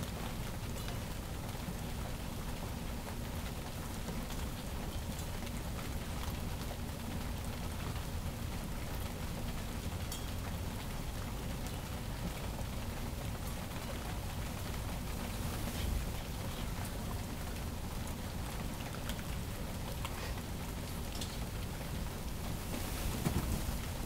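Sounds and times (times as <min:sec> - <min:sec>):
continuous low rumble: 0:00.0 - 0:24.0
steady rain hiss: 0:00.0 - 0:24.0.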